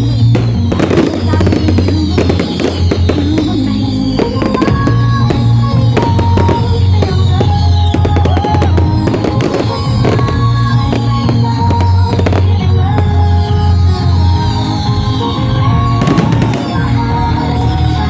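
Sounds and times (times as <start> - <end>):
fireworks bangs and crackles: 0.0 - 18.0
loud music with heavy bass: 0.0 - 18.0.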